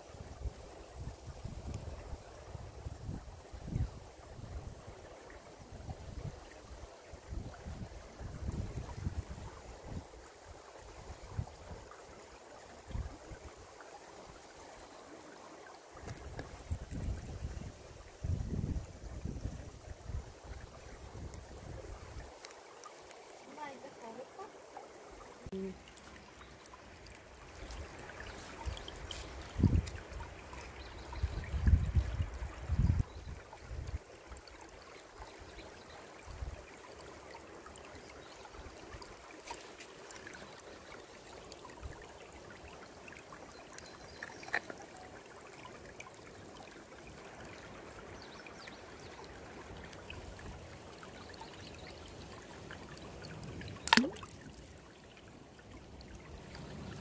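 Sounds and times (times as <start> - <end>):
stream trickling over pebbles: 0.0 - 57.0.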